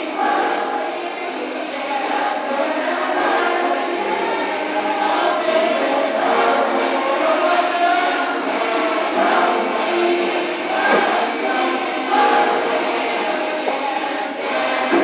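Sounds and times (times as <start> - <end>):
crowd chanting in unison: 0.0 - 15.0.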